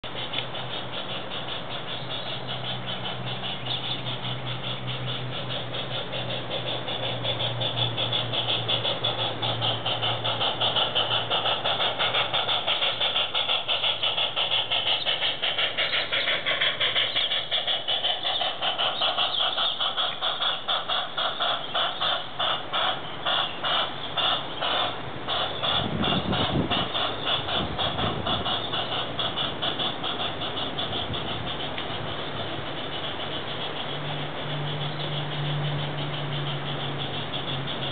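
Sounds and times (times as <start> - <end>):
model train clicking on track: 0.0 - 37.9.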